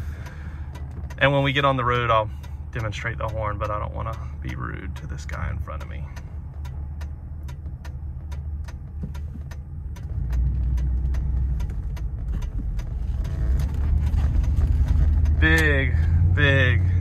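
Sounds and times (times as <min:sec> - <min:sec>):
car engine and road rumble: 0:00.0 - 0:17.0
turn signal clicking: 0:00.0 - 0:17.0.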